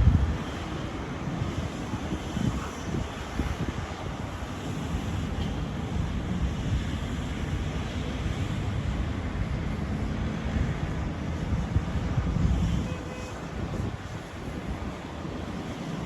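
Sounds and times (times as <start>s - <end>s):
city traffic noise: 0.0s - 16.0s
wind buffeting microphone: 0.0s - 16.0s.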